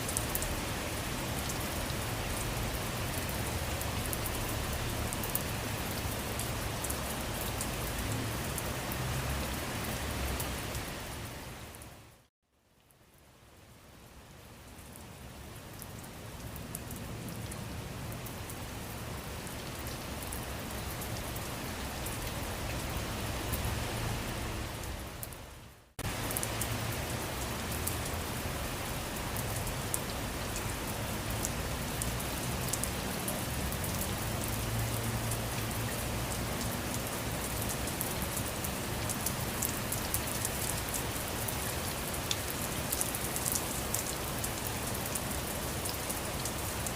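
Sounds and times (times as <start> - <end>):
rain with pattering drops: 0.0 - 46.9.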